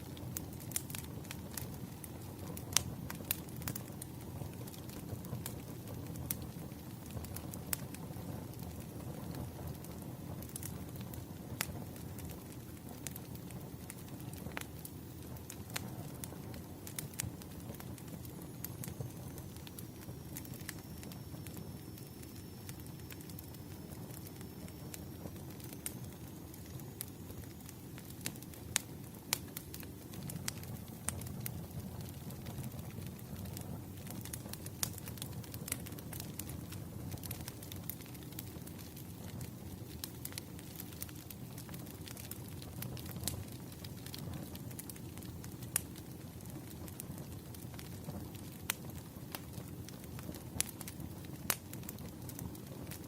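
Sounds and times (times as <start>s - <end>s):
wood fire crackling: 0.0s - 53.0s
sharp pops of burning logs: 0.2s - 53.0s.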